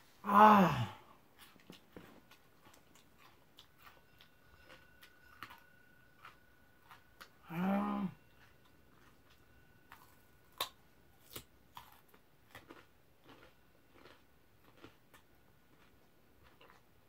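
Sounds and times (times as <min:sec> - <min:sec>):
crunchy chewing of raw radish: 0:00.8 - 0:17.0.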